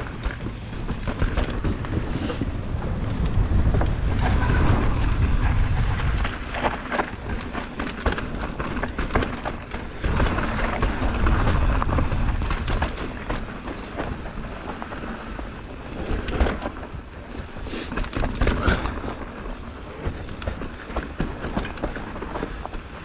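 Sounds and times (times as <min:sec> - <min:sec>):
bike rattling and knocking: 0:00.0 - 0:23.0
bike tyres rolling over dirt: 0:00.0 - 0:23.0.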